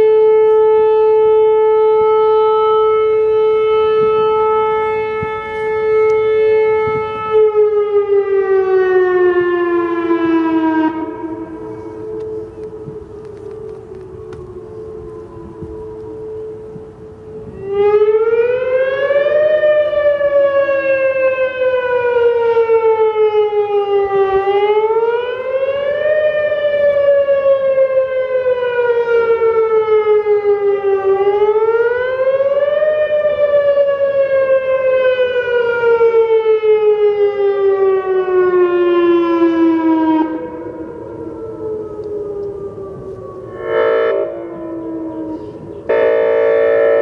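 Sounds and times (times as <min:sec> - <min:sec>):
warning siren wailing: 0:00.0 - 0:47.0.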